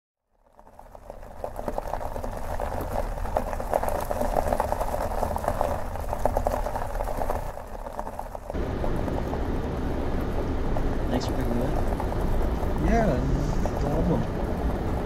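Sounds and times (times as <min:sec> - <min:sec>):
car engine and tyre rumble: 0:00.2 - 0:15.0
rapid crackle: 0:00.2 - 0:15.0.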